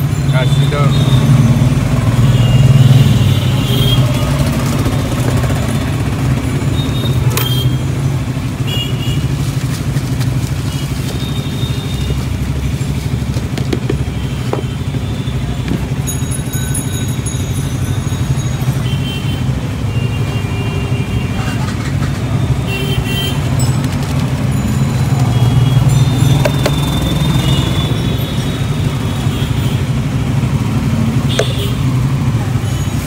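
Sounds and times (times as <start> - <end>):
vehicle engine humming: 0.0 - 20.0, 21.1 - 33.0
roadside traffic noise: 0.0 - 33.0.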